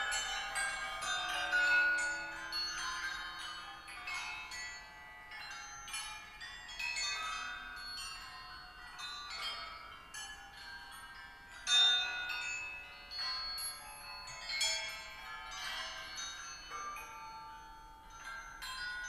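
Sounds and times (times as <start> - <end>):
metal hammers ringing like chimes: 0.0 - 19.0.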